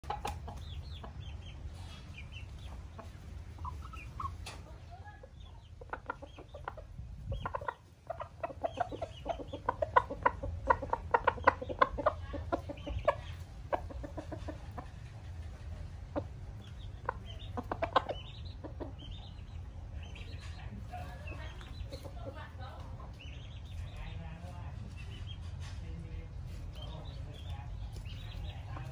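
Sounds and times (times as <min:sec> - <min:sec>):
roosters clucking: 0:00.0 - 0:28.9
steady low rumble: 0:00.1 - 0:28.9.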